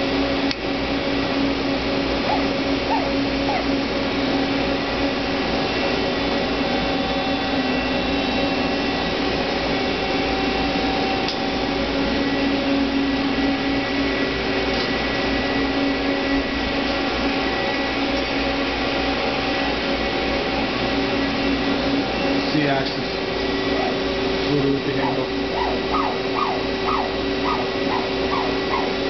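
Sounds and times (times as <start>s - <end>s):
constant machine whine: 0.0s - 29.0s
machine mechanical hum: 0.0s - 29.0s.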